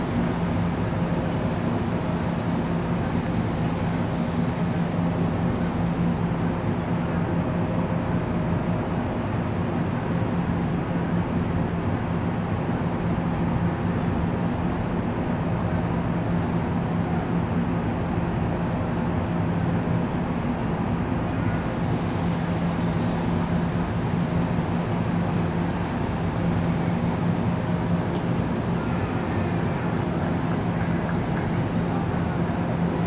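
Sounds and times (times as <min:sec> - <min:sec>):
diesel locomotive humming: 0:00.0 - 0:33.0.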